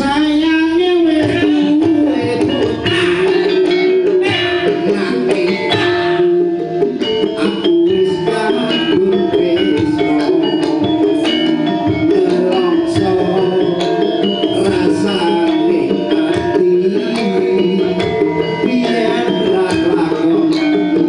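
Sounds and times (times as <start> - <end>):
drum strokes: 0.0 - 21.0
gamelan ensemble playing: 0.0 - 21.0
struck metallophone notes: 0.0 - 21.0.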